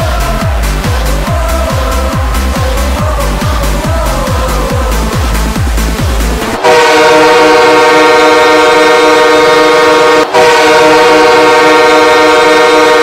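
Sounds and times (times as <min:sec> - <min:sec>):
loud horn blast: 0:00.0 - 0:13.0.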